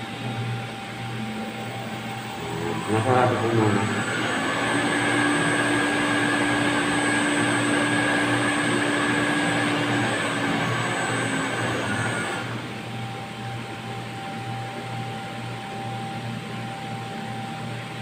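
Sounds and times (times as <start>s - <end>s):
water pump whirring: 0.0s - 16.0s.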